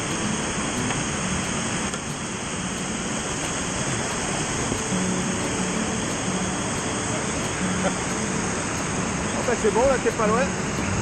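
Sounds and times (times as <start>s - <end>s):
river whitewater rushing: 0.0s - 11.0s.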